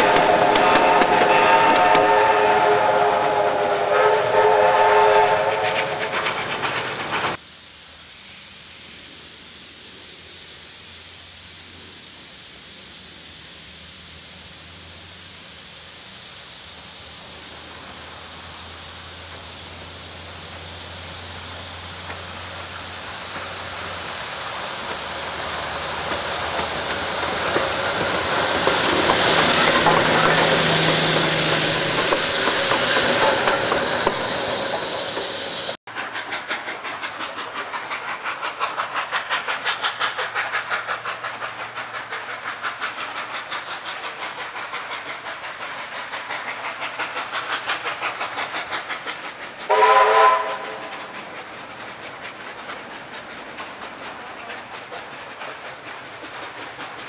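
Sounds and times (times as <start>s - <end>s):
distant steam train exhaust beats: 0.0s - 57.0s
steam locomotive hiss and exhaust: 0.0s - 57.0s.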